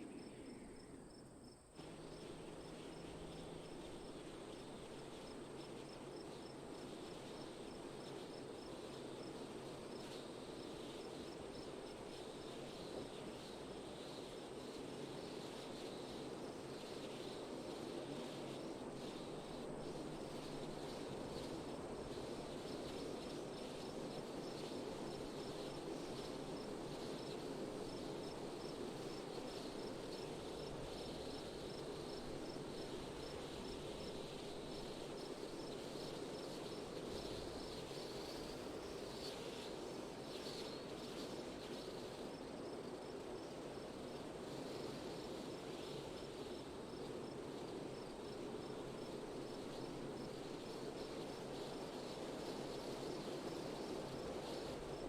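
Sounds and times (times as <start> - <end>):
steady wind: 0.0 - 55.0.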